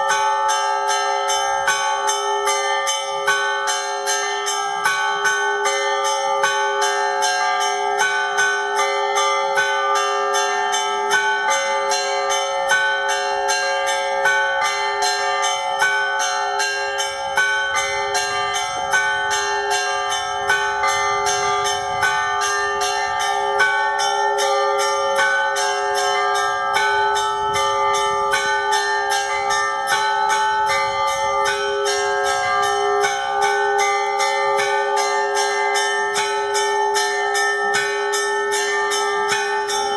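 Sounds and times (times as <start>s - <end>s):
large bells humming: 0.0s - 39.9s
small church bells struck quickly: 0.0s - 39.9s.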